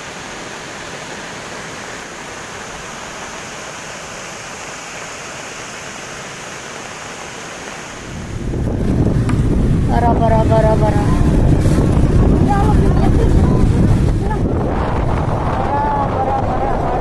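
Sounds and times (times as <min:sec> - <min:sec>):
rushing floodwater: 0:00.0 - 0:17.0.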